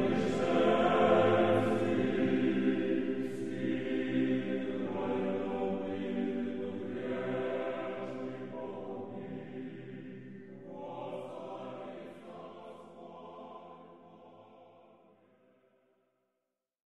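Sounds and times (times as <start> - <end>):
choir singing chant-like chords: 0.0 - 15.4.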